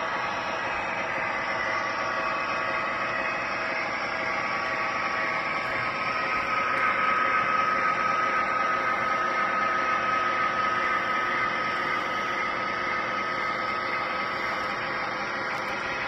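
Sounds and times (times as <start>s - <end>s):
faint whine: 0.0s - 16.0s
model train whirring on track: 0.0s - 16.0s.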